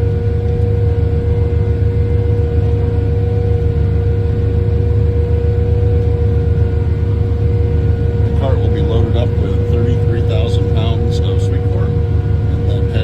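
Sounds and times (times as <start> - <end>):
constant machinery whine: 0.0 - 13.0
harvester engine drone: 0.0 - 13.0.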